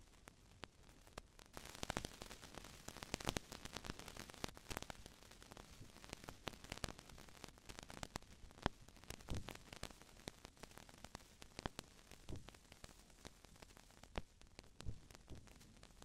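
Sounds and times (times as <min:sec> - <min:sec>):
crackling static: 0:00.0 - 0:16.0.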